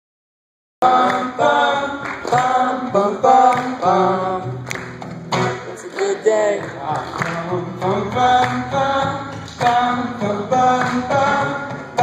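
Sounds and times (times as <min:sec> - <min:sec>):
man singing into microphone: 0:00.8 - 0:04.6, 0:05.4 - 0:12.0
strummed acoustic guitar: 0:00.8 - 0:12.0.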